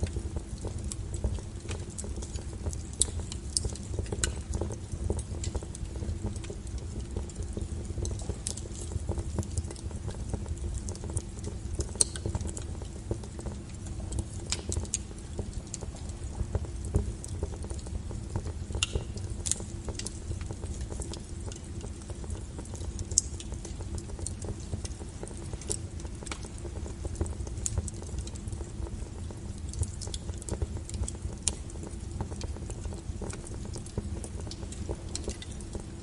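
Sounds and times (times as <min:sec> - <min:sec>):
firewood crackling and popping: 0:00.0 - 0:36.0
low rumble of flames: 0:00.0 - 0:36.0.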